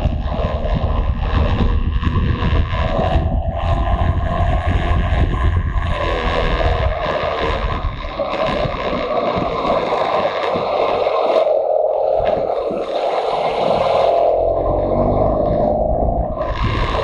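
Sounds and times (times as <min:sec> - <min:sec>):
motorcycle engine running: 0:00.0 - 0:10.9, 0:13.6 - 0:17.0
wind rushing over microphone: 0:00.0 - 0:17.0.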